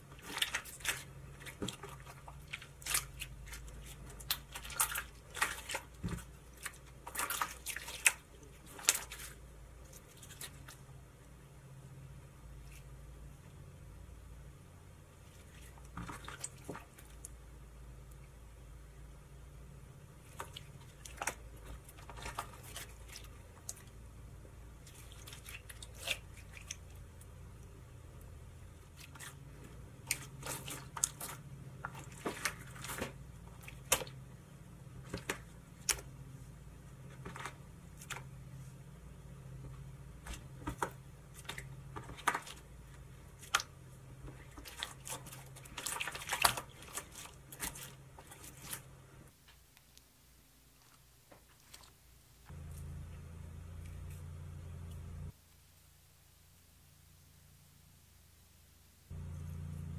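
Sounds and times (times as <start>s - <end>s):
slime squelching: 0.0s - 55.4s
faint low hum: 0.0s - 59.9s.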